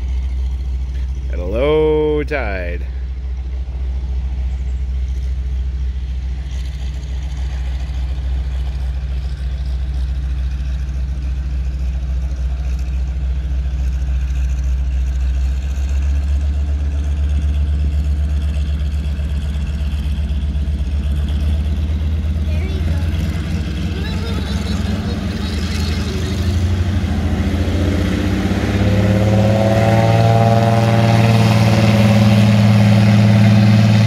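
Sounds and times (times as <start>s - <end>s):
float plane engine and propeller: 0.0s - 34.0s.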